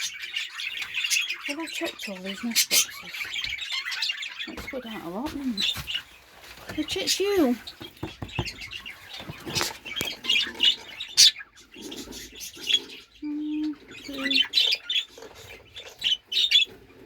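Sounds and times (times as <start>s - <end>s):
budgies chattering and chirping: 0.0s - 17.0s.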